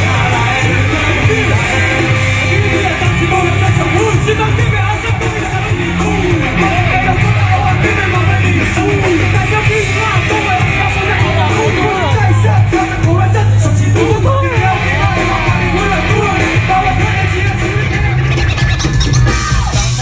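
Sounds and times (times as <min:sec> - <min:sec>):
heavy low bass: 0:00.0 - 0:20.0
live band music: 0:00.0 - 0:20.0
person singing: 0:00.0 - 0:20.0
strummed guitar: 0:00.0 - 0:20.0.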